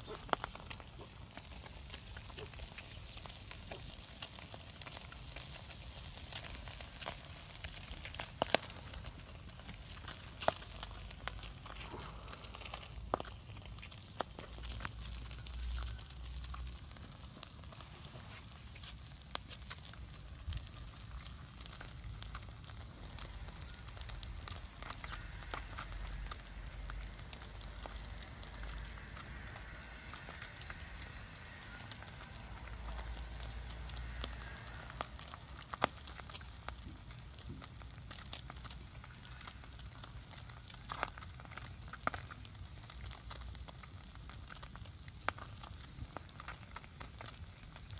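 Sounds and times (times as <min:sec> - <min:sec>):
wood fire crackling with pops: 0:00.0 - 0:47.9.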